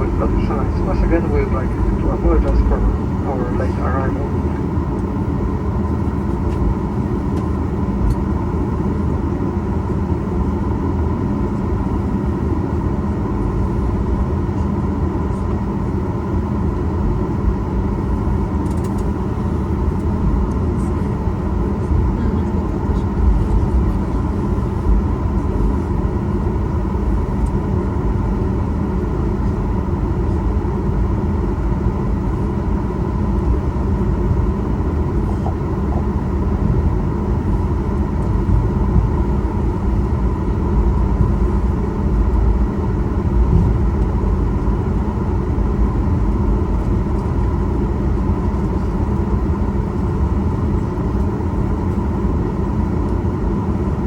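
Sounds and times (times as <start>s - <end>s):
aircraft cabin rumble: 0.0s - 54.0s
idling jet engine hum: 0.0s - 54.0s.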